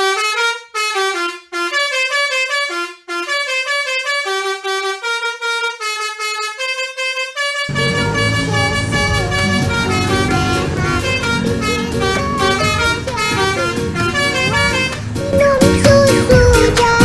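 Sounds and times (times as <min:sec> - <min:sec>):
musical truck horn tune: 0:00.0 - 0:17.0.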